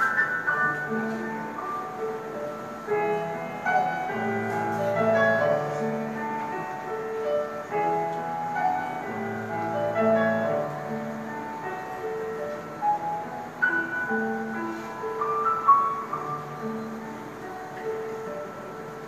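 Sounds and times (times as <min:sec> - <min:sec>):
piano melody: 0:00.0 - 0:19.0.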